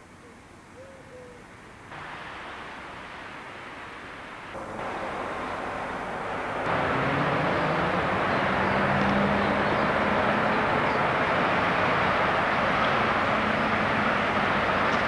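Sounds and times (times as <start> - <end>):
outdoor background noise: 0.0 - 15.0
tram rolling with motor hum: 2.0 - 15.0.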